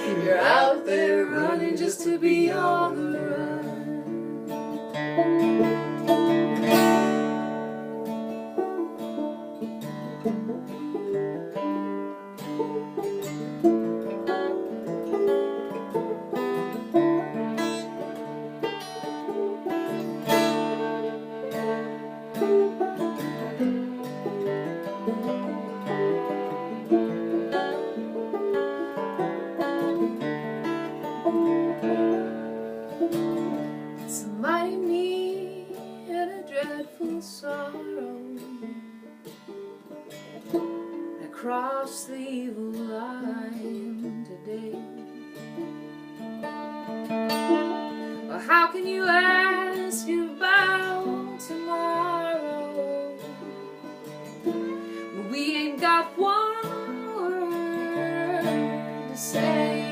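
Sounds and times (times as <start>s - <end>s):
acoustic guitar: 0.0s - 59.9s
banjo picking: 0.0s - 59.9s.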